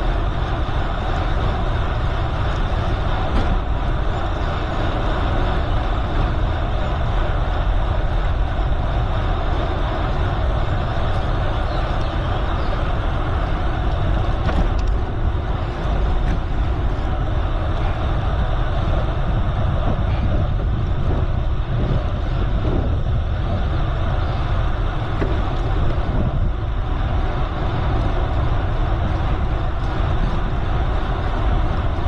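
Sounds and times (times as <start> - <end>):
bicycle tyres rolling: 0.0 - 32.0
wind buffeting microphone: 0.0 - 32.0.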